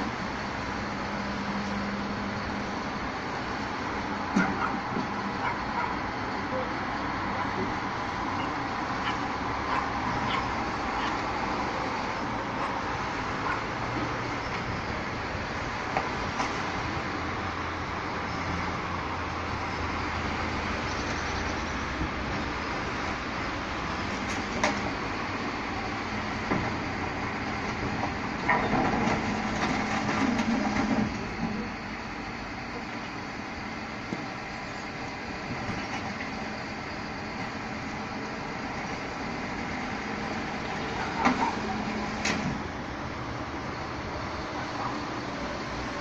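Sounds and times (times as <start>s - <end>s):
garbage truck machine hum: 0.0s - 46.0s.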